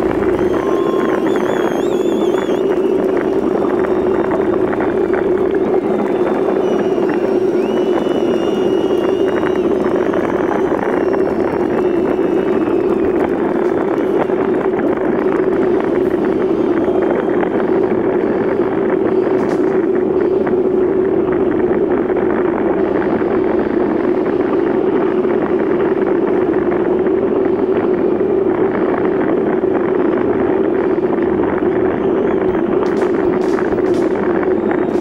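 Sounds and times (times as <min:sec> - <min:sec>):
road noise: 0:00.0 - 0:35.0
vehicle engine running steadily: 0:00.0 - 0:35.0
wind noise: 0:00.0 - 0:35.0.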